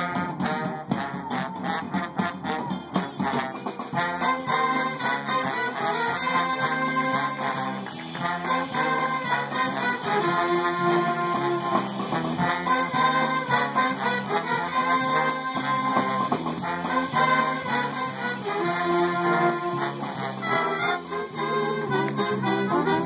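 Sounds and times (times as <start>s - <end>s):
swing band playing: 0.0s - 23.0s.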